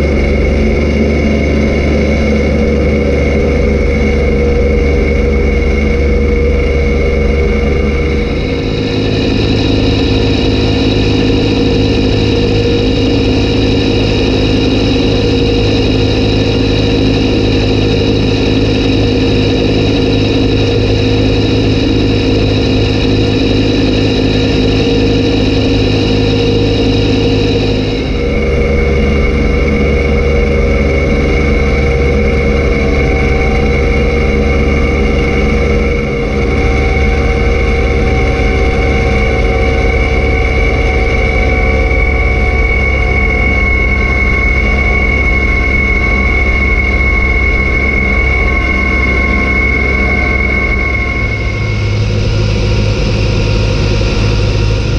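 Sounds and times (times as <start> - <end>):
steady high whine: 0.0 - 54.9
tractor diesel engine running: 0.0 - 54.9.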